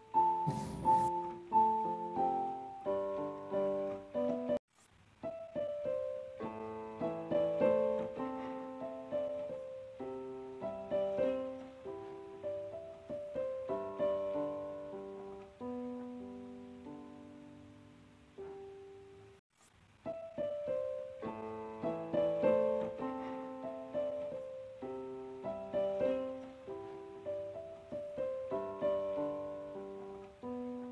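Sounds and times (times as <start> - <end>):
gentle piano music: 0.0 - 4.6, 5.2 - 19.4, 20.0 - 30.9.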